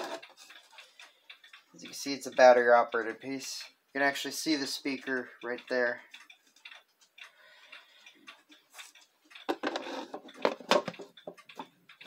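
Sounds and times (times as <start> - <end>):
clock ticking faintly: 0.0 - 12.0.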